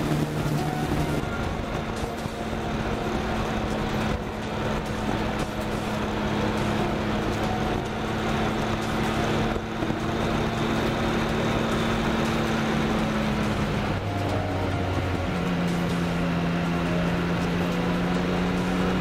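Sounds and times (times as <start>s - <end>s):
background music of held notes: 0.0s - 19.0s
motorcycle engine cruising: 0.0s - 19.0s.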